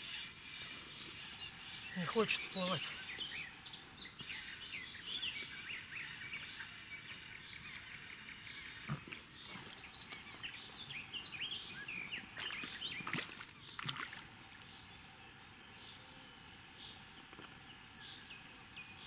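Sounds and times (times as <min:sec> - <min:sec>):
songbirds chirping and trilling: 0:00.0 - 0:19.0
steady outdoor hiss: 0:00.0 - 0:19.0.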